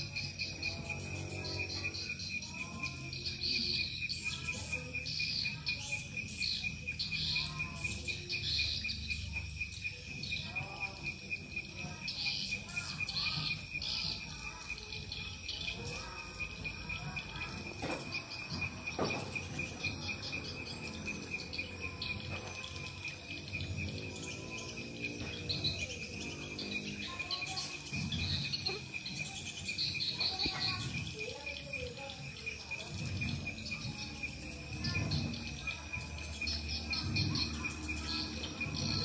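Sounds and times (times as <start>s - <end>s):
swiftlet chirps and twitters: 0.0s - 39.0s.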